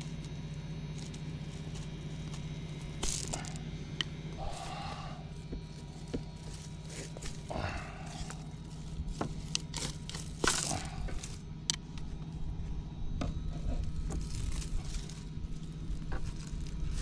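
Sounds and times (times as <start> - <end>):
brush rustling: 0.0 - 3.7, 4.4 - 11.5, 13.6 - 17.0
weed stems snapping: 0.9 - 12.1, 13.8 - 17.0.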